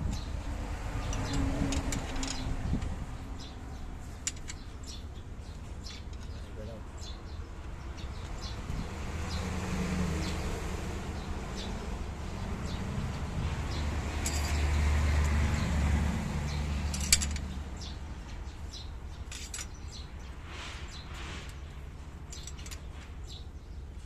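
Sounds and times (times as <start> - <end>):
birds chirping: 0.0 - 24.0
low engine rumble: 0.0 - 24.0.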